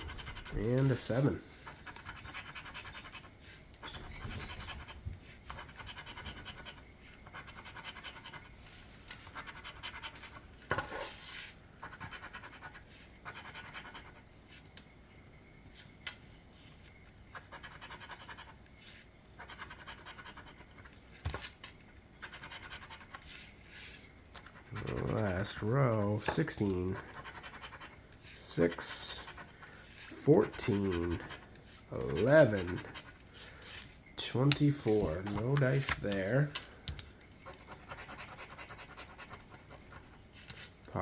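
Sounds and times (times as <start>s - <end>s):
scratching lottery ticket: 0.0s - 14.6s, 17.3s - 21.6s, 22.2s - 36.8s, 37.4s - 41.0s.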